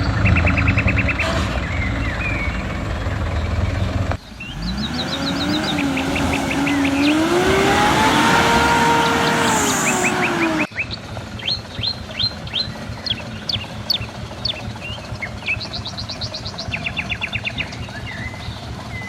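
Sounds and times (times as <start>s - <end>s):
bird chirps: 0.0s - 19.0s
off-road vehicle engine revving: 0.0s - 19.0s.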